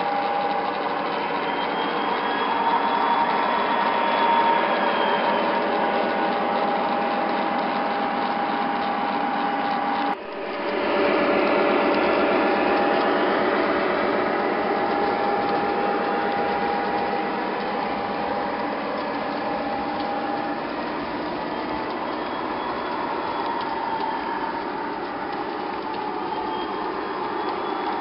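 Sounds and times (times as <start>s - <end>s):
model train motors whirring: 0.0s - 28.0s
thin steady whine: 0.0s - 28.0s.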